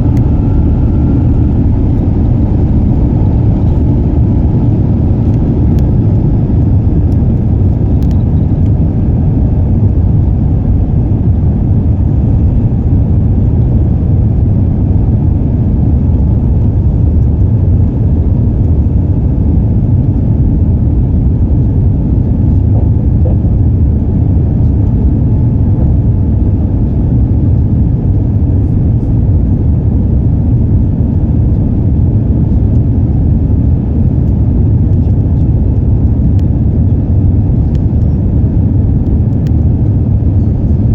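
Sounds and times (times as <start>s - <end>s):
jet engines and airflow in cabin: 0.0s - 40.9s.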